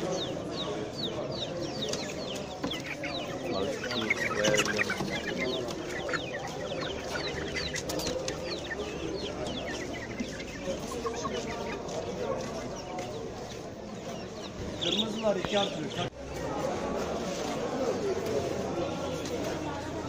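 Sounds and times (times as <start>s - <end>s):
chicks peeping: 0.0s - 20.0s
hens clucking: 0.0s - 20.0s.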